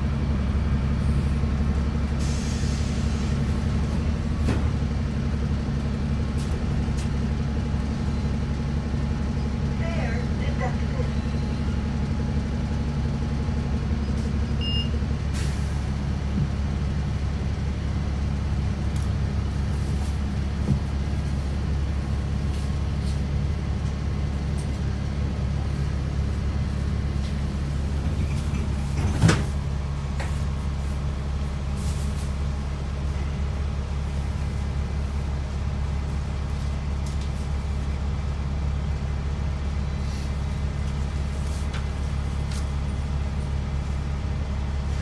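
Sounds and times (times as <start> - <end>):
bus engine idling: 0.0 - 45.0.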